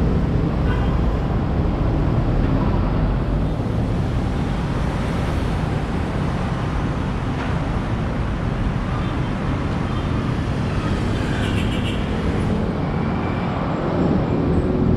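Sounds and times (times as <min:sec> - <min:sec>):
city road traffic rumble: 0:00.0 - 0:14.9.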